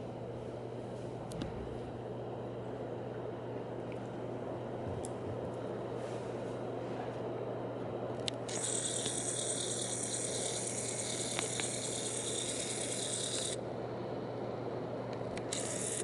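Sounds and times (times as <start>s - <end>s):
ceiling fan humming: 0.0s - 16.0s.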